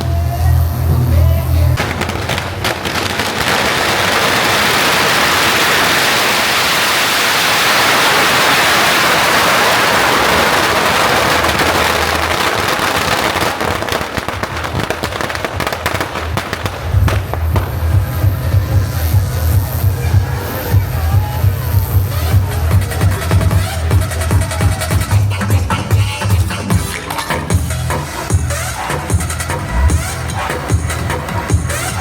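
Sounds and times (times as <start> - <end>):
firecrackers crackling: 0.0 - 32.0.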